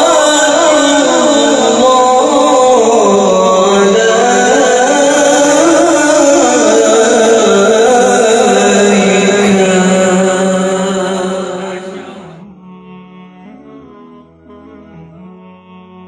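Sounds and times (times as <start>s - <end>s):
man singing through loudspeaker: 0.0s - 14.0s, 15.1s - 16.0s.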